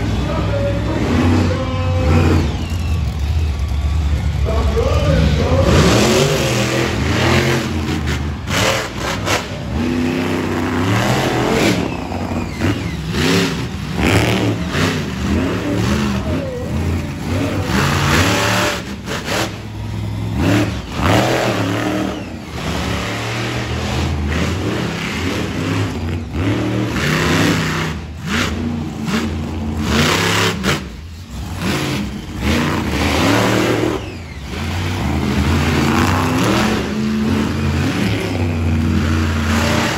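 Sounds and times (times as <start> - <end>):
monster truck engines revving: 0.0 - 39.9.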